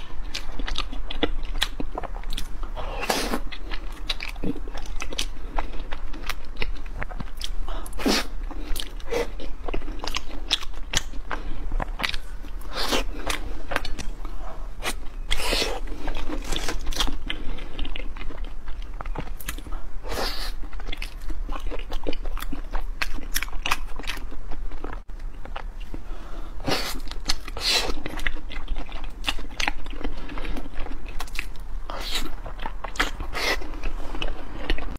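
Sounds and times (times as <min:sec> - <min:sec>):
chewing soft rice cakes: 0:00.0 - 0:34.9.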